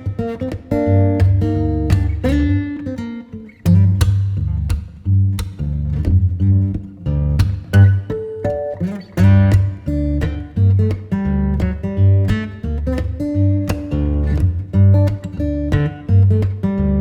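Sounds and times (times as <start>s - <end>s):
acoustic guitar plucked and strummed: 0.0s - 17.0s
deep bass line: 0.8s - 2.6s, 3.7s - 8.1s, 9.2s - 17.0s.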